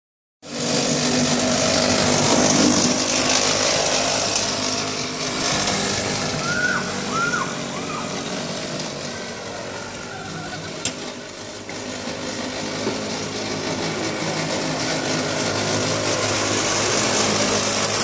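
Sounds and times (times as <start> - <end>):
go-kart engine passing: 0.4 - 18.0.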